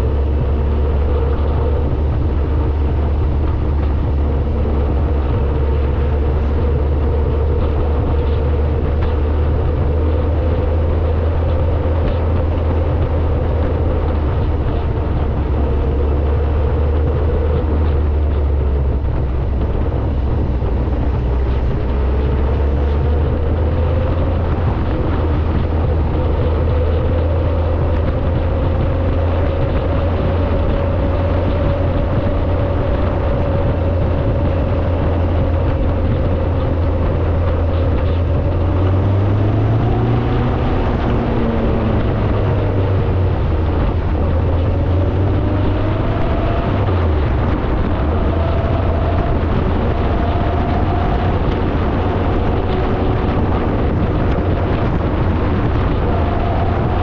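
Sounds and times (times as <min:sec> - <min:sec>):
car engine droning: 0:00.0 - 0:57.0
road and wind noise: 0:00.0 - 0:57.0.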